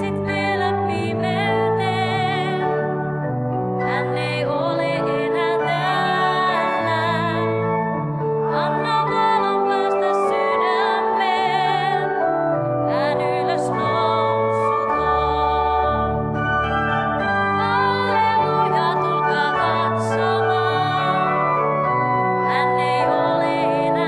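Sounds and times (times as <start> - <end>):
church organ: 0.0 - 24.0
hymn singing with vibrato: 3.8 - 7.6, 8.5 - 24.0.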